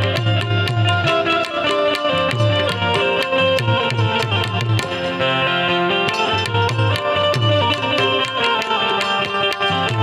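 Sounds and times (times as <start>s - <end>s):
harmonium melody: 0.0s - 10.0s
tabla beat: 0.0s - 10.0s.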